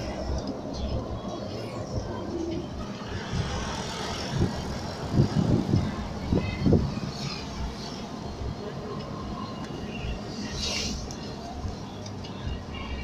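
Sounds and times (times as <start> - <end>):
car road noise inside cabin: 0.0 - 13.0.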